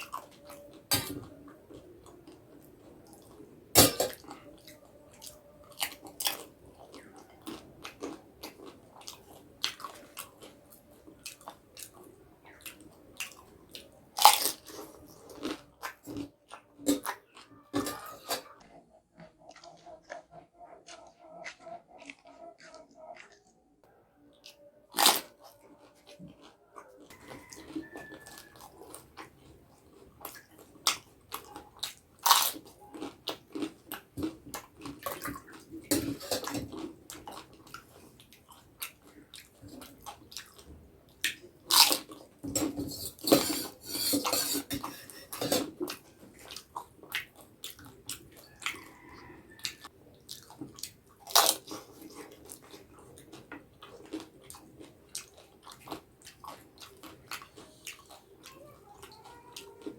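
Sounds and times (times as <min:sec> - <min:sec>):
crunching and chewing crisp food: 0:00.0 - 0:59.9.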